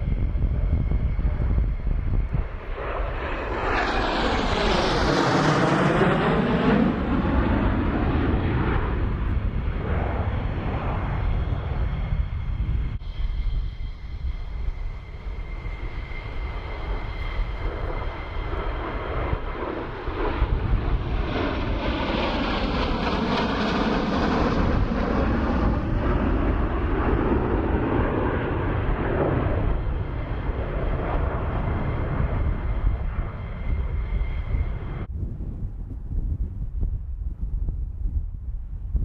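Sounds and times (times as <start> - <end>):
jet engine roar passing overhead: 0.0 - 39.0
low rumble: 0.0 - 39.0.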